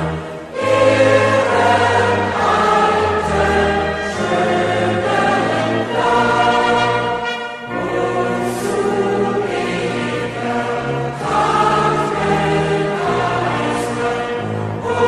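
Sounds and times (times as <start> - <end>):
choir singing long chords: 0.0 - 15.0.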